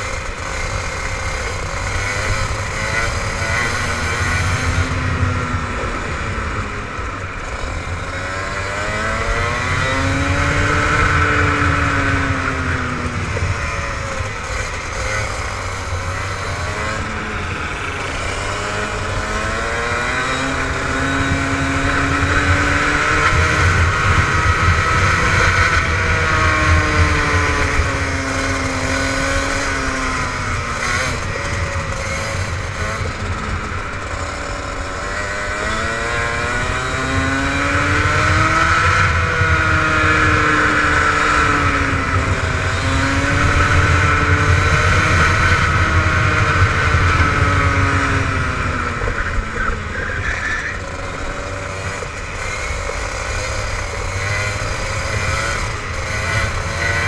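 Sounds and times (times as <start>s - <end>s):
go-kart engine accelerating: 0.0s - 57.0s.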